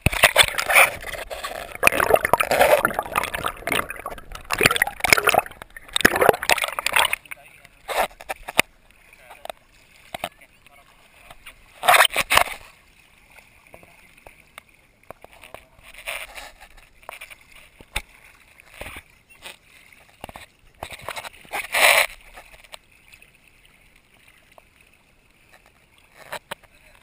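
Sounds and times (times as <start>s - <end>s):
seawater splashing underfoot: 0.0s - 27.0s.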